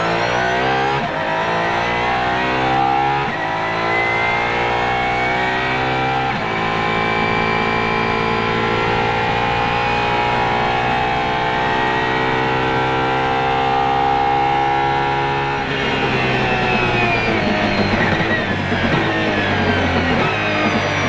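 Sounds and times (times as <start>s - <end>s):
car engine accelerating at high revs: 0.0s - 21.0s.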